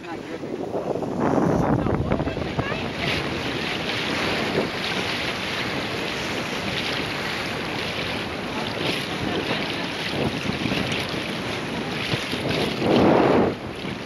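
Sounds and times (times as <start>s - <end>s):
water washing along hull: 0.0s - 14.0s
wind buffeting microphone: 0.0s - 14.0s.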